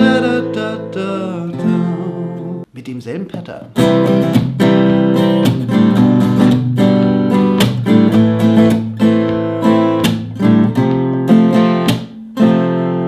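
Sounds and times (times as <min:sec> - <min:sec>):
acoustic guitar strumming: 0:00.0 - 0:02.7, 0:03.7 - 0:13.0.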